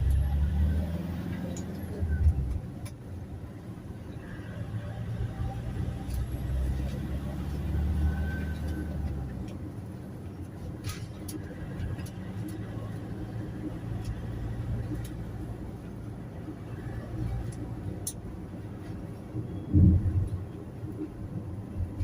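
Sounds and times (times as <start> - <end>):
van engine and road rumble: 0.0 - 22.0.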